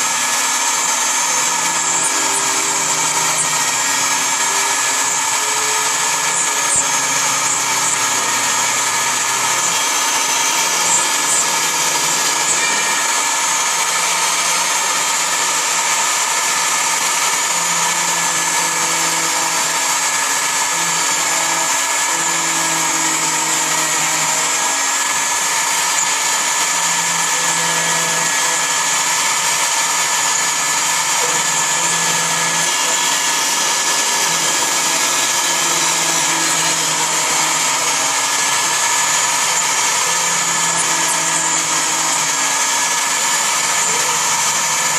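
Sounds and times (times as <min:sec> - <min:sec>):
cutting noise: 0:00.0 - 0:44.9
milling machine spindle whine: 0:00.0 - 0:44.9.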